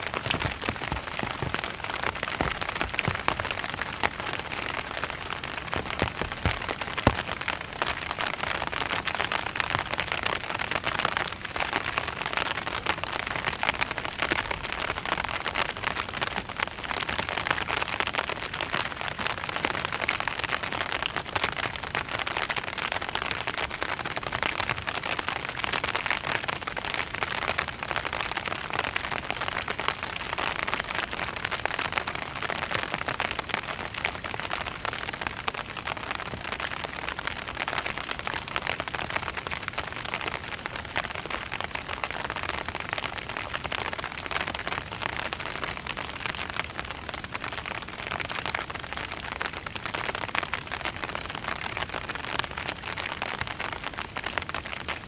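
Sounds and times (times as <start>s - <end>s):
rain on an umbrella: 0.0s - 55.0s.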